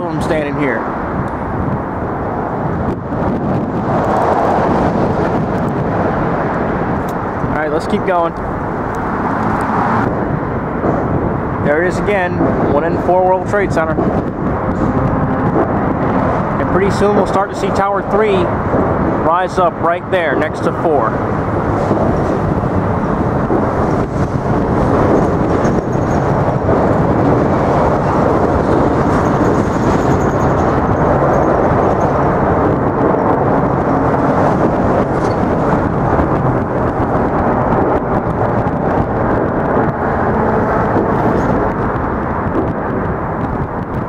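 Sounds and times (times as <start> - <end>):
subway train rumbling: 0.9 - 7.7, 8.3 - 11.7, 12.4 - 19.3, 20.6 - 44.0.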